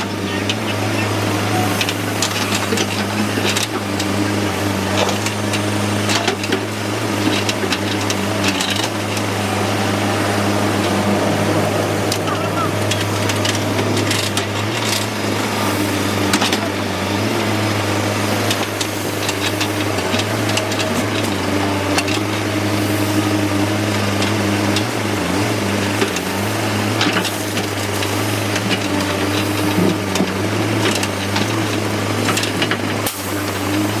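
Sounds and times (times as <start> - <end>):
diesel engine humming under load: 0.0 - 34.0.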